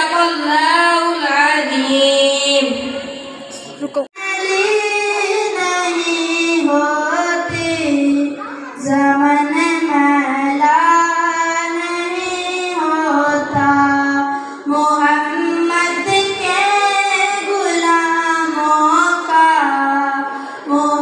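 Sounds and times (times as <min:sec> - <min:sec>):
boy singing into microphone: 0:00.0 - 0:21.0.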